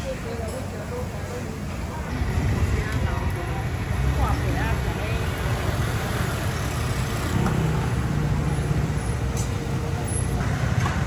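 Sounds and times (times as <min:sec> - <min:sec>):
scooter engine humming close: 0:00.0 - 0:11.0
street traffic rumble: 0:00.0 - 0:11.0.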